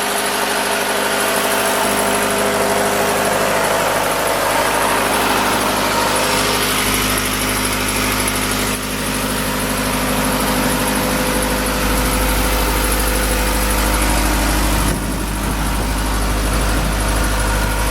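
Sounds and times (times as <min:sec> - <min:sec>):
diesel compressor engine running: 0:00.0 - 0:17.9.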